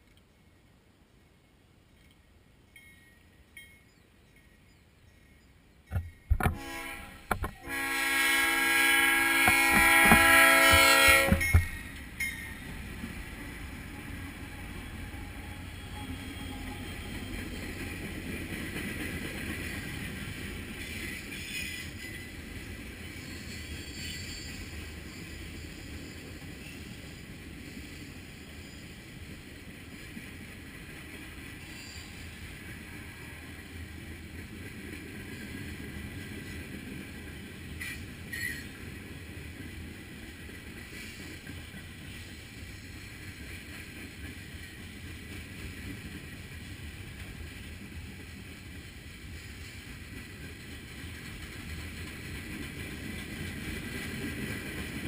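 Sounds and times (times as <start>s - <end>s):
steel wheels rumbling on rails: 2.8s - 55.0s.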